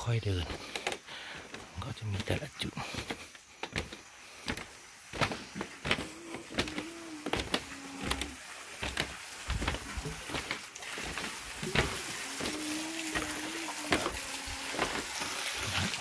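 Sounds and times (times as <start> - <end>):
footsteps on bamboo slats: 0.0 - 16.0.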